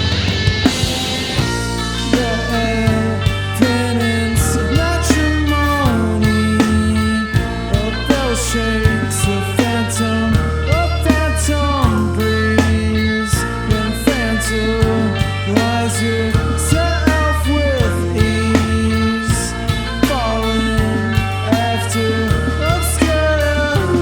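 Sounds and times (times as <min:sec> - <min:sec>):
drum and cymbal hits: 0:00.0 - 0:24.0
loud sustained bass: 0:00.0 - 0:24.0.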